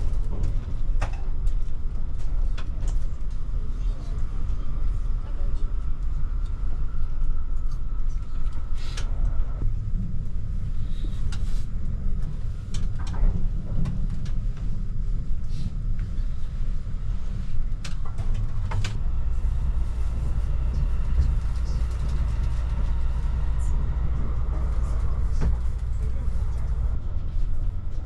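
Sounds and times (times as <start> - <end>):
train rumbling inside carriage: 0.0 - 28.0.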